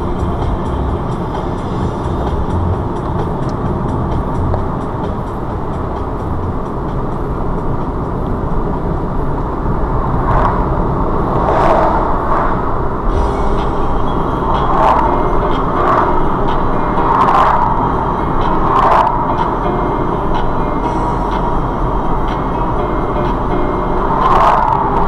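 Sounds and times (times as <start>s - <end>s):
car engine and road noise: 0.0s - 25.0s
lorry passing: 0.0s - 25.0s.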